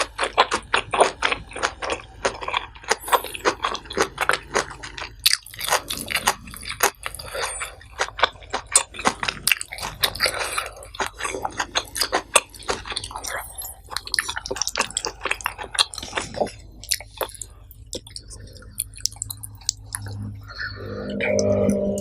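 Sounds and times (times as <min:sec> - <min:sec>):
close chewing with wet clicks: 0:00.0 - 0:20.6.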